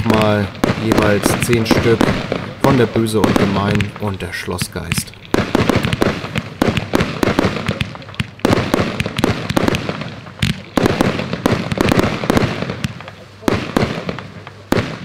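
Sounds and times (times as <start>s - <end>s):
firework launch thumps: 0.0s - 15.0s
firework shells bursting: 0.0s - 15.0s.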